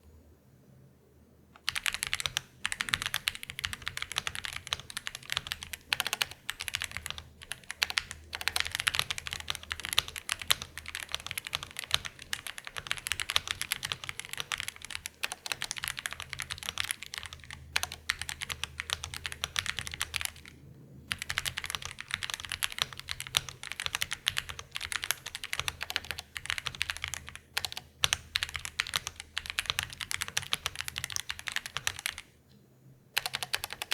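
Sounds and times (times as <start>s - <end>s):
fast mechanical keyboard typing: 1.6s - 32.3s, 33.2s - 33.9s.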